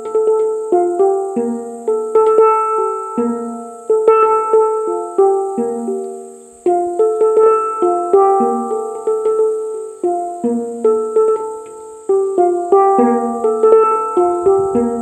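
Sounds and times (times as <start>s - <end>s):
plucked note melody: 0.0s - 15.0s.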